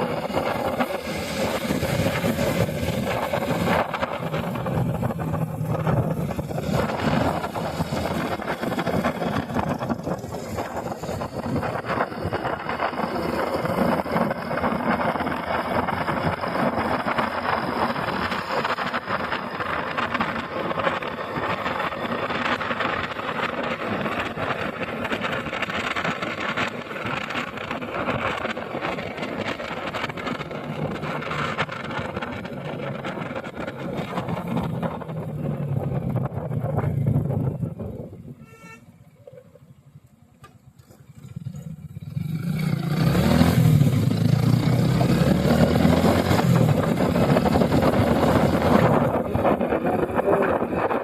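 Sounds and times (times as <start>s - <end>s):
wind buffeting microphone: 0.0s - 38.4s, 42.4s - 51.0s
motorcycle engine running: 0.0s - 51.0s.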